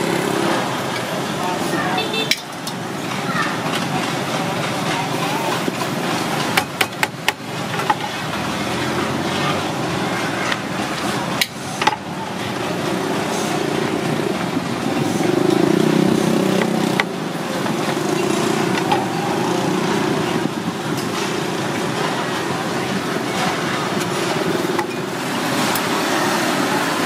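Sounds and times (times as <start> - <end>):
street traffic hum: 0.0 - 27.0.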